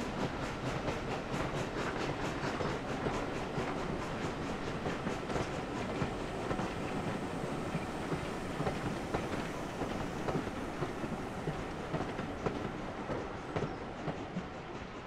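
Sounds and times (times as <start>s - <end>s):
steam train rumbling past: 0.0s - 15.0s
wheels clicking on track: 0.0s - 15.0s.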